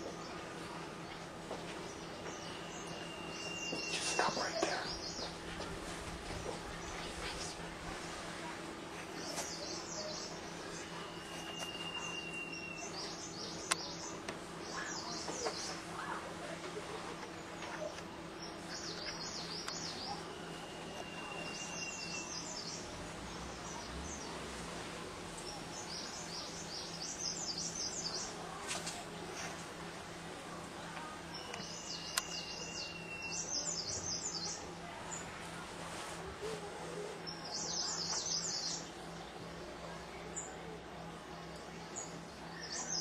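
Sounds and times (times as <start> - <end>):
birds twittering: 0.0 - 8.1, 9.1 - 24.5, 25.4 - 29.6, 31.1 - 35.4, 37.2 - 43.0.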